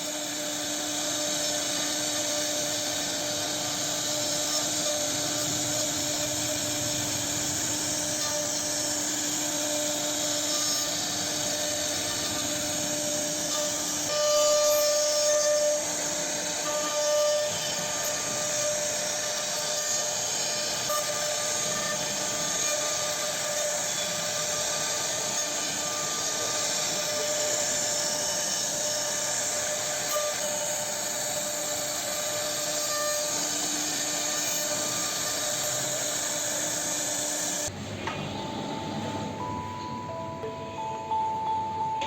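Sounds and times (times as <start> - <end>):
router spindle whining: 0.0 - 42.0.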